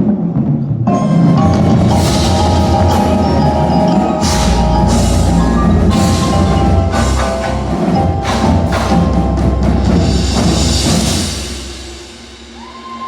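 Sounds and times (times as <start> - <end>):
drums: 0.0 - 13.0
marimba ringing notes: 0.9 - 12.3
full-band hits: 0.9 - 12.6
deep bass: 1.4 - 12.4.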